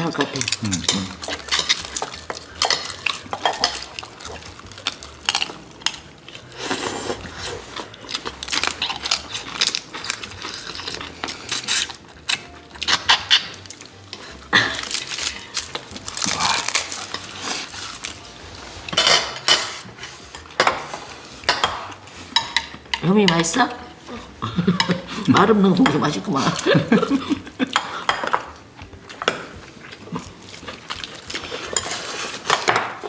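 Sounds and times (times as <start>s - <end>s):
cutlery and dishes clinking: 0.0s - 33.0s.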